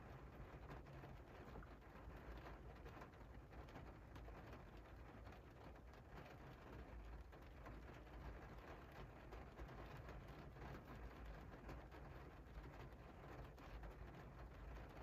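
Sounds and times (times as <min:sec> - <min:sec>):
rain on a window pane: 0:00.0 - 0:15.0.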